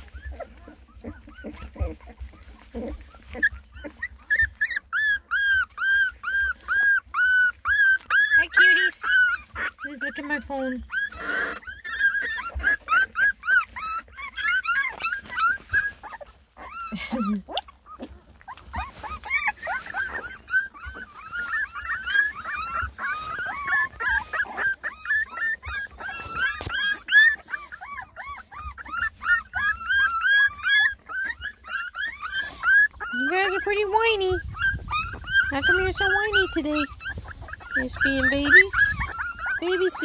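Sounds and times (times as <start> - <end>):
puppies whining and whimpering: 0.0 - 40.0.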